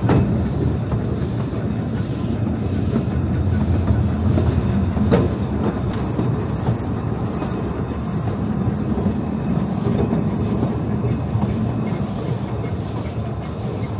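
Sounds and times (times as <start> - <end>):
train rumbling past: 0.0 - 13.9.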